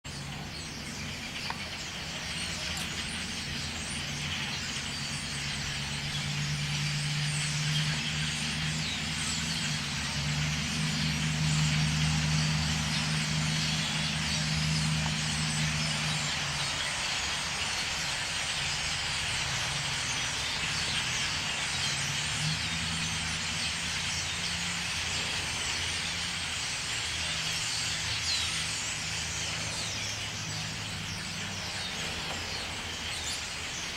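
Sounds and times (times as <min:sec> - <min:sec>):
flock of birds chirping: 0:00.0 - 0:33.9.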